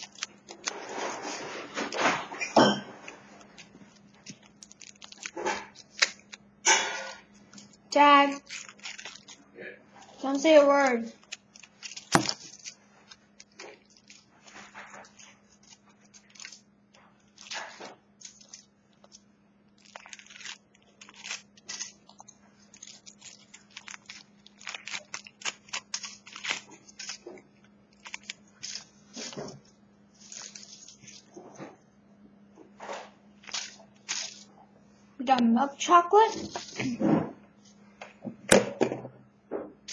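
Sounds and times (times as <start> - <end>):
foil wrapper crinkling: 0.0 - 31.7, 32.8 - 34.5, 36.2 - 37.0.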